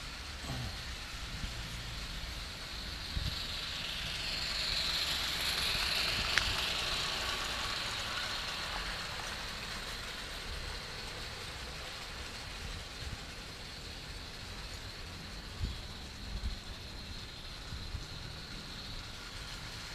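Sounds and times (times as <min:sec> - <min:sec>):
model steam locomotive hissing: 0:00.0 - 0:19.9.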